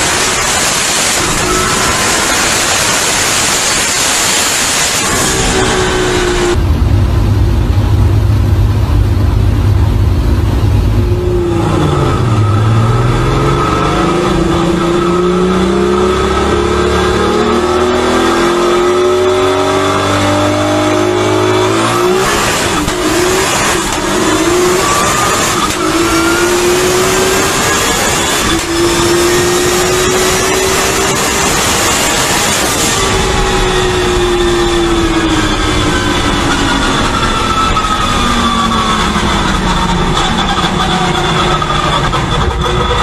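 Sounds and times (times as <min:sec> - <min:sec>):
car engine accelerating: 0:00.0 - 0:43.0
wind and road noise: 0:00.0 - 0:43.0.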